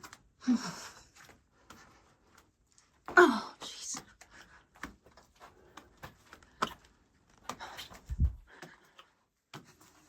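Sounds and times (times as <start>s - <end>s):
light clicks and scuffs: 1.0s - 10.0s.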